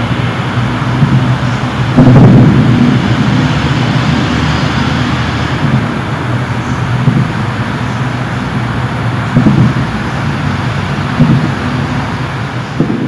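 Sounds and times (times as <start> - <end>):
deep booming rumble: 0.0 - 13.0.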